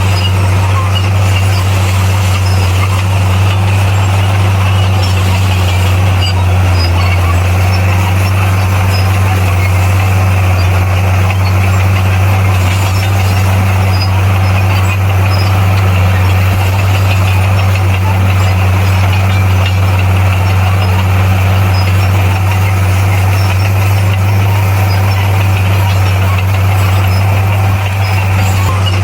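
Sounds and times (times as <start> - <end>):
bulldozer diesel engine drone: 0.0 - 29.0.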